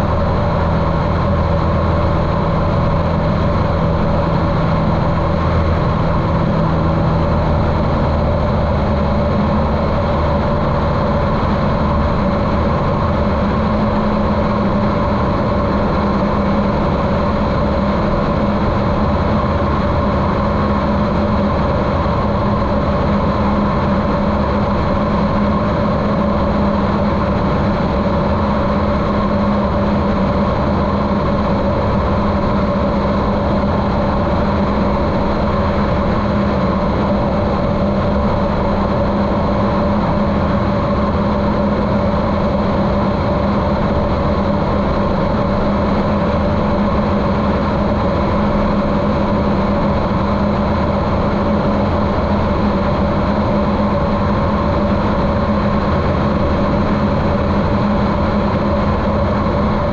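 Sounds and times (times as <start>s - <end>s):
muffled airplane engine and propeller: 0.0s - 59.9s.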